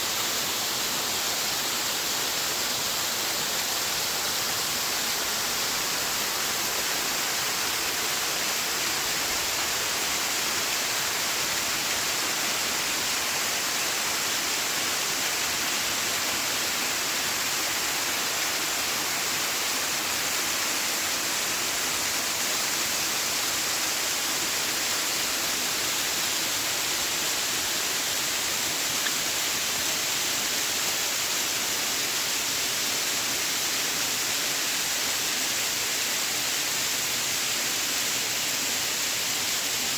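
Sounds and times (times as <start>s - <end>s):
water rushing down a creek: 0.0s - 39.9s.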